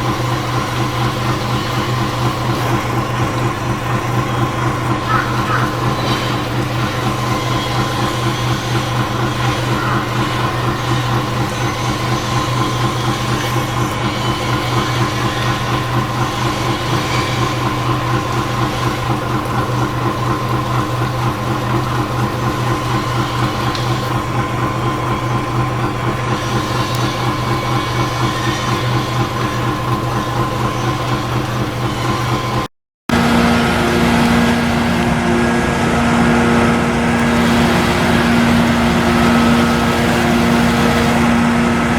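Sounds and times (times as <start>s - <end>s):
diesel engine drone: 0.0s - 41.9s.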